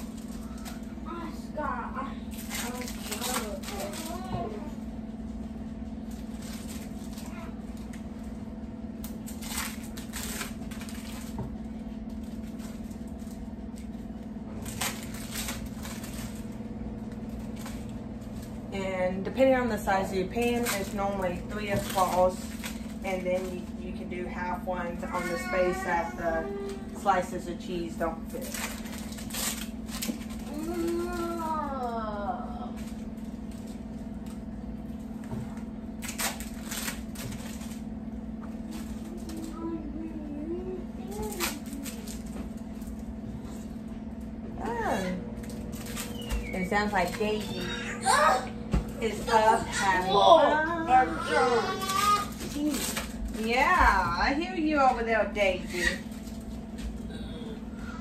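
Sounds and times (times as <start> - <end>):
cheese pack crinkling: 0.0 - 18.7, 19.7 - 40.0, 41.0 - 53.9, 55.6 - 57.2
steady low hum: 0.0 - 58.0.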